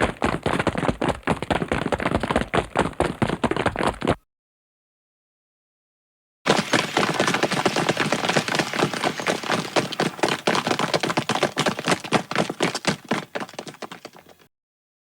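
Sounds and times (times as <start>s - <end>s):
cartoon running footfalls: 0.0s - 4.2s, 6.5s - 14.5s.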